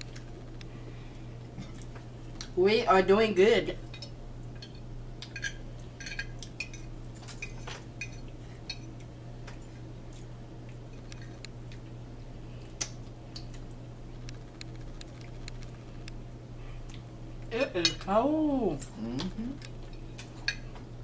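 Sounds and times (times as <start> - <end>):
low hum: 0.0 - 2.6, 3.7 - 21.0.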